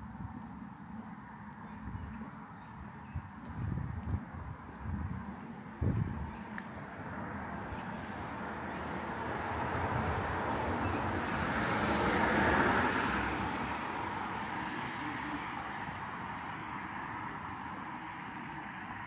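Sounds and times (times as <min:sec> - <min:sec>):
vehicle passing: 0:03.4 - 0:19.0.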